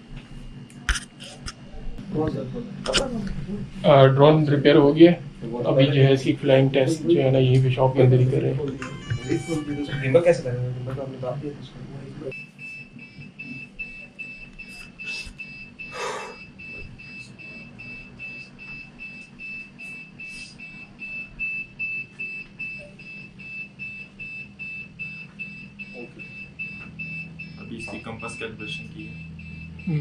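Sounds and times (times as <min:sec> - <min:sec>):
low steady hum: 0:00.0 - 0:30.0
electronic warning beeping: 0:03.7 - 0:30.0.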